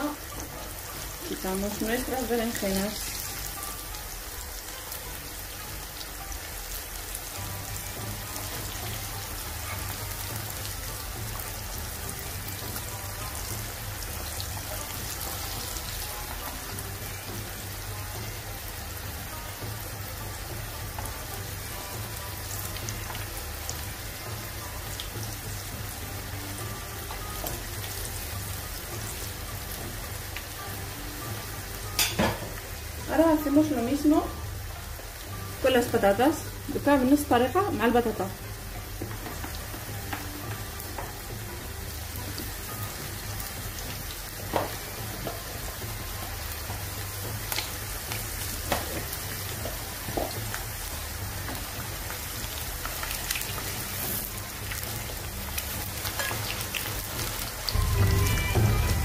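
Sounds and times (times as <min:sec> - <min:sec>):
oil sizzling in a frying pan: 0:00.0 - 0:59.0.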